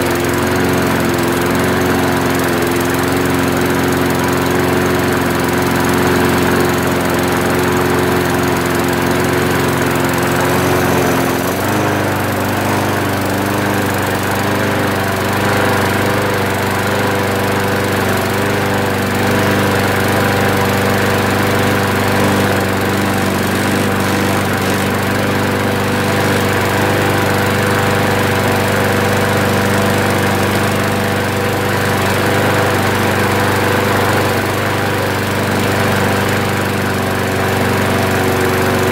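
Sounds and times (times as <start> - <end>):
lawnmower engine running: 0.0 - 38.9.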